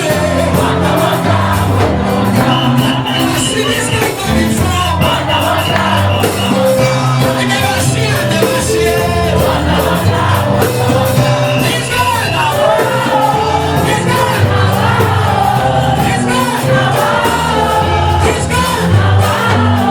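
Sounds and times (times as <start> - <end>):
church praise music with singing: 0.0 - 19.9
steady bass line: 0.0 - 19.9.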